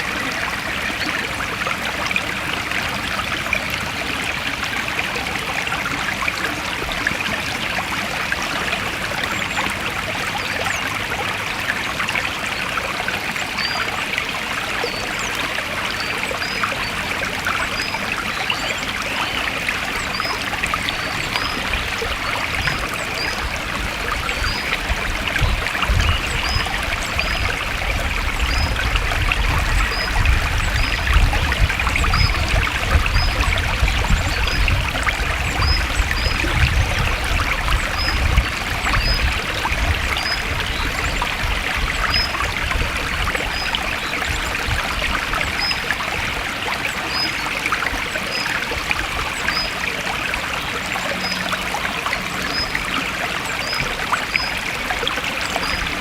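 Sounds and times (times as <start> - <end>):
deeper water rushing: 0.0 - 56.0
forest stream trickling: 0.0 - 56.0.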